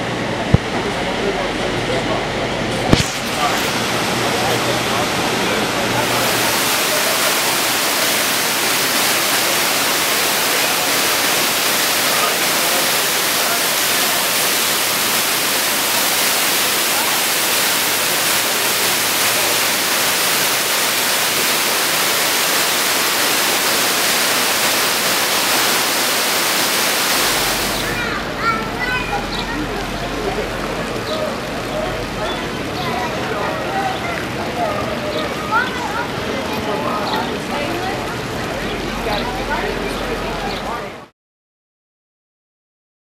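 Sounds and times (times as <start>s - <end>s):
waterfall rushing into pool: 0.1s - 41.1s.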